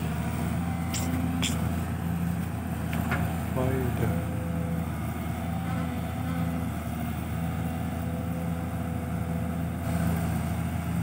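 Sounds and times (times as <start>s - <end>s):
dump truck idling: 0.0s - 11.0s
excavator digging: 0.0s - 11.0s.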